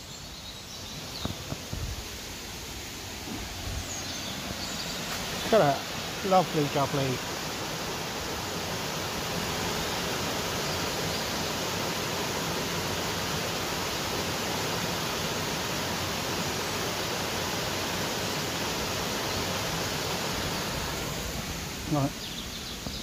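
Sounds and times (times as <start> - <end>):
water rushing over weir: 1.2 - 23.0.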